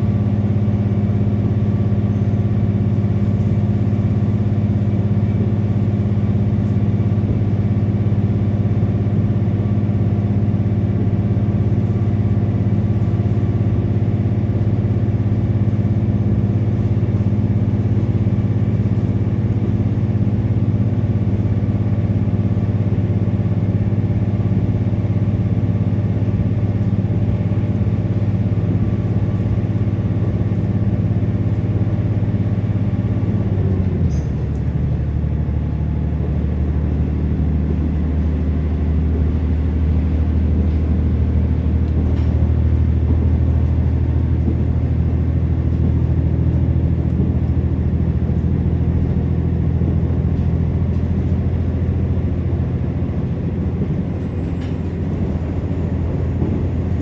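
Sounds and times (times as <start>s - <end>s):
railcar diesel engine drone: 0.0s - 57.0s.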